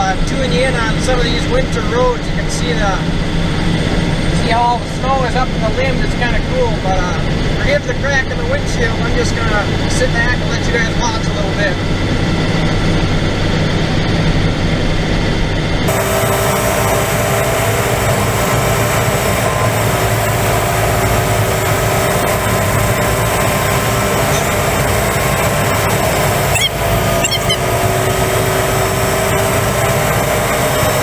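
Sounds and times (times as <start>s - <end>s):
road and cab noise: 0.0s - 31.0s.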